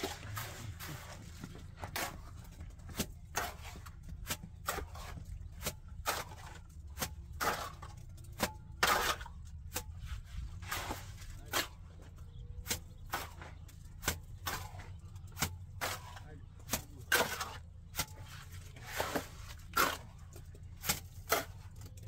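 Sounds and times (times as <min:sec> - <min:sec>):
hand tools tapping and scraping: 0:00.0 - 0:22.0
low steady hum: 0:00.0 - 0:22.0.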